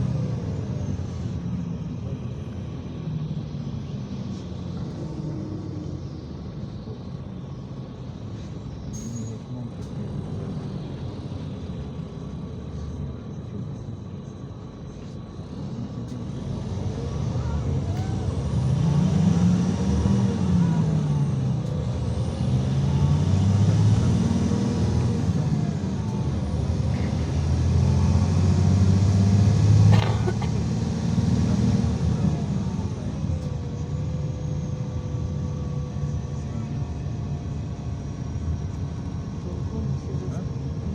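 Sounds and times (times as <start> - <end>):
bus engine rumble inside cabin: 0.0 - 40.9.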